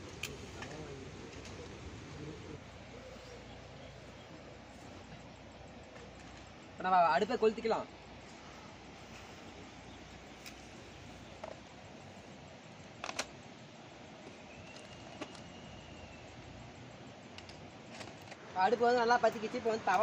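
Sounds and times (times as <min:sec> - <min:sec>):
outdoor background: 0:00.0 - 0:20.0.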